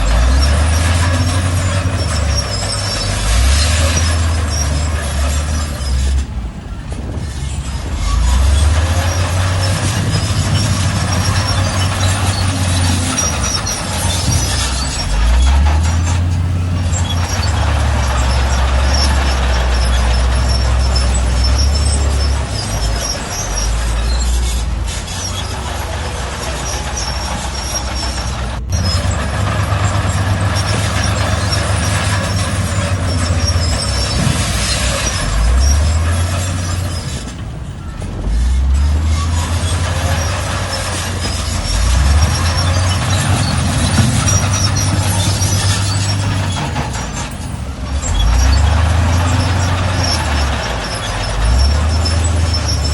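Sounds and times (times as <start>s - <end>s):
bulldozer diesel engine: 0.0s - 52.9s
metallic squealing: 0.0s - 52.9s.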